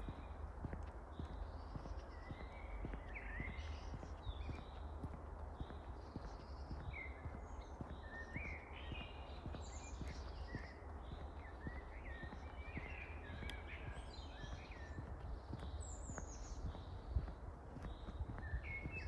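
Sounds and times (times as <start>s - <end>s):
soft footsteps: 0.0s - 19.0s
songbirds chirping: 0.0s - 19.0s
steady low rumble: 0.0s - 19.0s.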